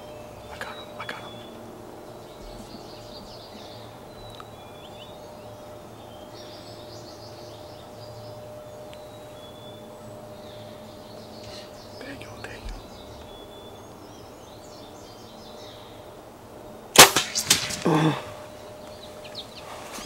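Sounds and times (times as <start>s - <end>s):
faint steady whine: 0.0s - 20.0s
low steady hum: 0.0s - 20.0s
songbirds chirping: 0.0s - 20.0s.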